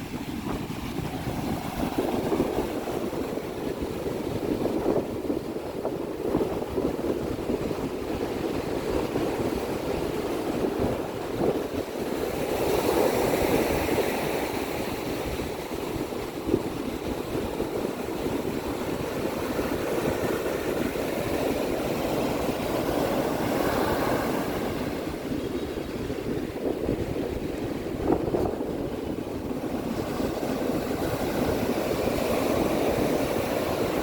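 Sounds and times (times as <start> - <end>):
sea waves washing onto beach: 0.0 - 34.0.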